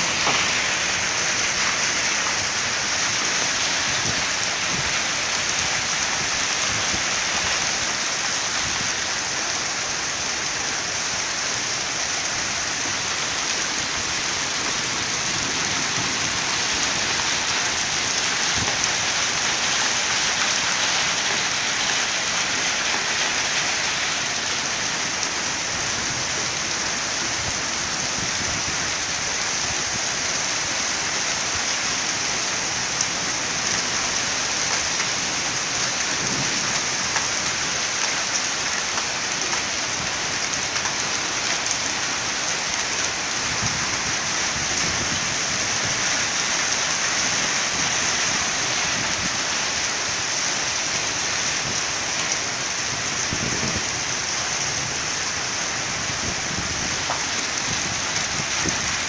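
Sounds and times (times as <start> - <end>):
hail falling on concrete: 0.0 - 59.0.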